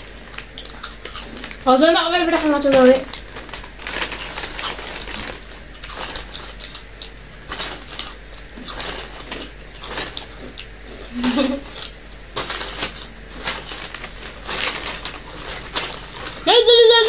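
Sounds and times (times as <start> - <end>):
chips being chewed: 0.0 - 1.6, 3.0 - 16.4.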